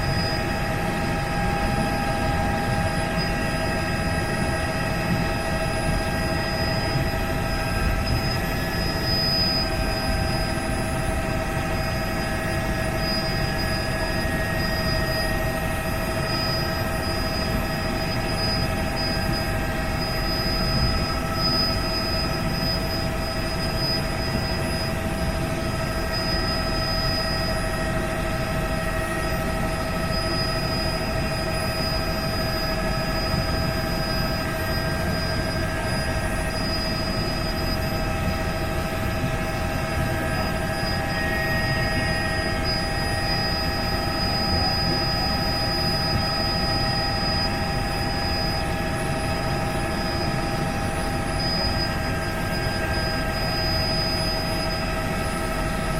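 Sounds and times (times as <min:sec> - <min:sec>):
helicopter running: 0:00.0 - 0:55.9.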